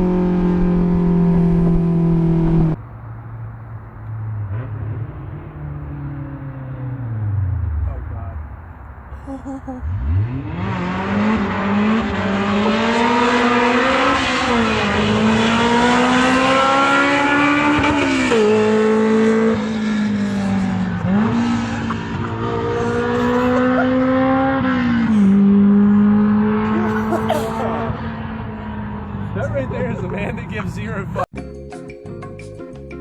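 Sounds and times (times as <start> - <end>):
car engine accelerating through gears: 0.0 - 2.8, 4.0 - 8.4, 9.8 - 31.3.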